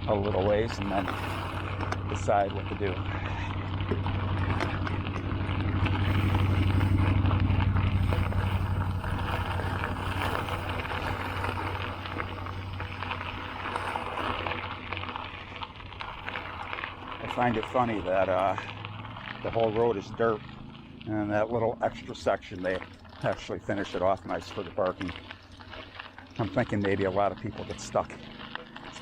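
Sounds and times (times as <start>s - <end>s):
bike tyres rolling on dirt road: 0.0s - 29.0s.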